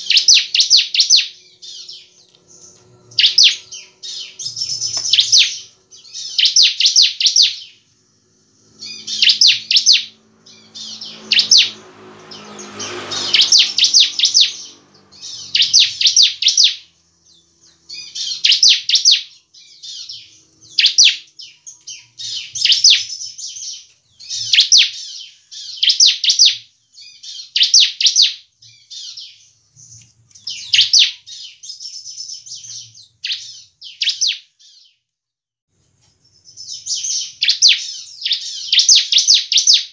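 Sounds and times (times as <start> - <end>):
bird singing rapid trills: 0.0 - 35.0, 36.2 - 39.9.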